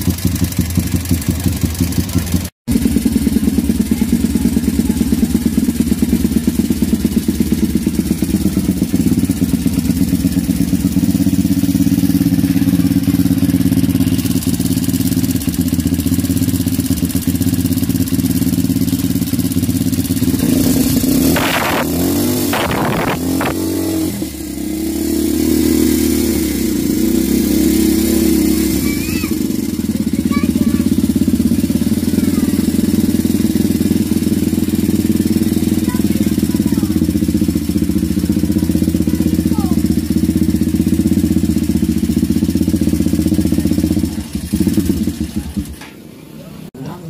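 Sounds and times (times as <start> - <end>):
motorcycle engine ticking knock: 0.0 - 23.7, 29.4 - 46.0.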